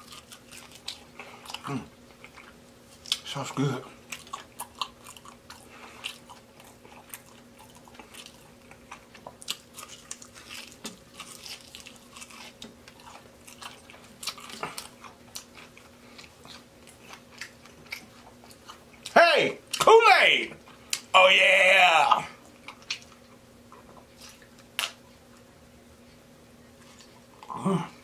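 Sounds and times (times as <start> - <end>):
crunchy chewing: 0.0 - 19.8, 22.4 - 27.6.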